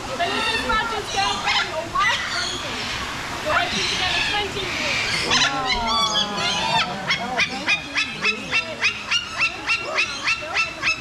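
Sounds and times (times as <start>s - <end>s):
bird honking calls: 0.2s - 11.0s.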